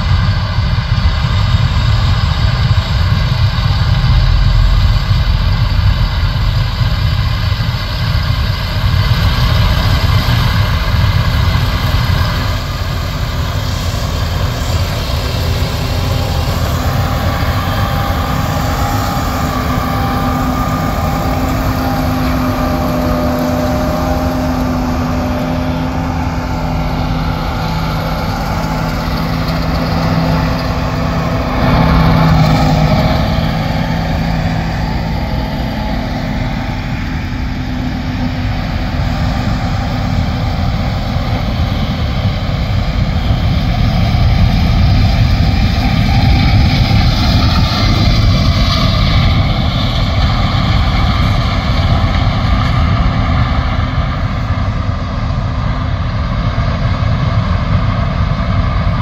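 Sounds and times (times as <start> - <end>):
diesel engine drone: 0.0 - 59.0
machine whine: 0.0 - 59.0.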